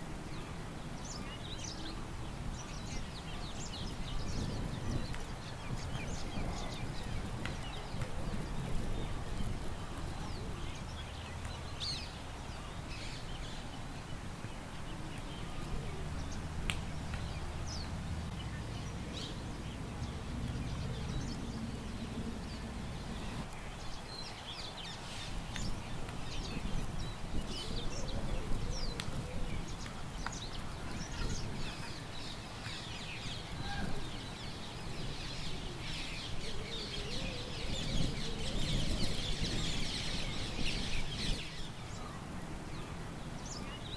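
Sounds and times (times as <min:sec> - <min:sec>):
low rumble of wind: 0:00.0 - 0:43.9
small birds chirping: 0:00.2 - 0:43.9.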